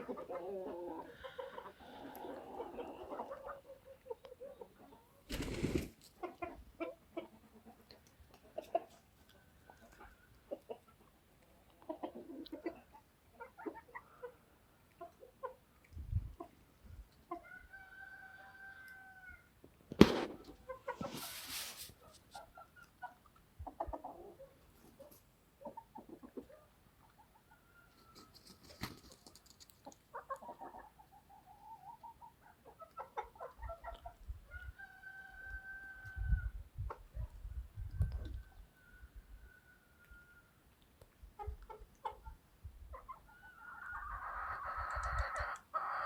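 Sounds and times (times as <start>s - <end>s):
chickens clucking: 0.0s - 19.2s, 20.0s - 39.1s, 41.1s - 46.0s
rustle: 0.0s - 46.0s.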